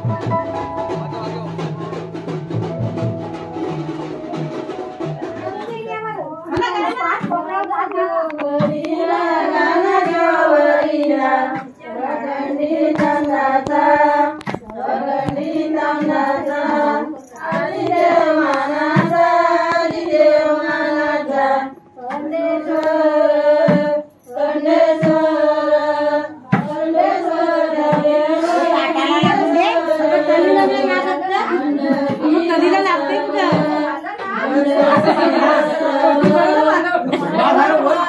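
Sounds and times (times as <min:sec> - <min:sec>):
women singing together: 0:05.0 - 0:38.0.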